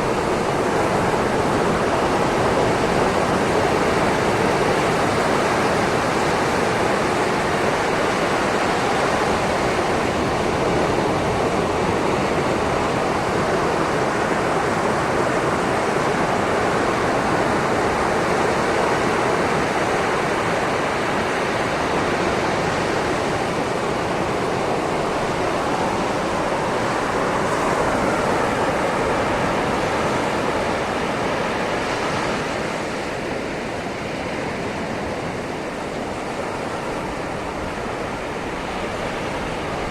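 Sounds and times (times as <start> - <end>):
sea waves washing over shore: 0.0 - 39.9.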